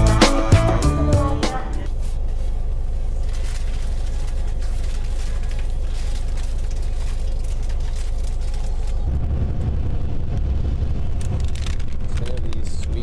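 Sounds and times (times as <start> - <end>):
bus engine and road rumble: 0.6 - 13.0.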